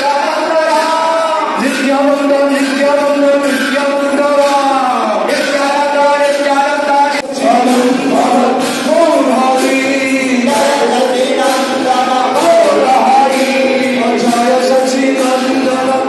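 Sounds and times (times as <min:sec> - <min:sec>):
crowd singing devotional song: 0:00.0 - 0:16.0.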